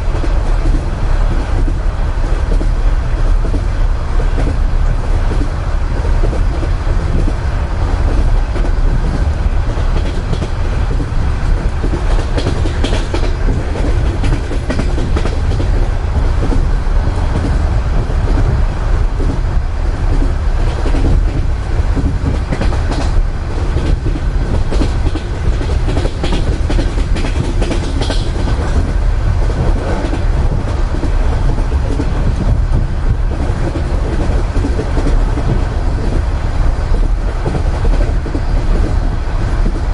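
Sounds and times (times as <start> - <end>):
low train rumble: 0.0 - 39.9
train wheels clacking over rail joints: 0.0 - 39.9.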